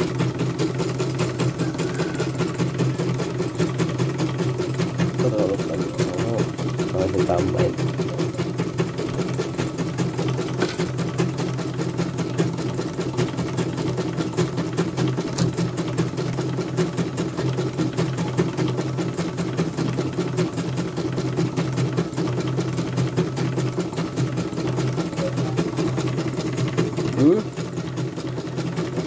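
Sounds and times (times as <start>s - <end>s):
embroidery machine stitching: 0.0s - 29.0s.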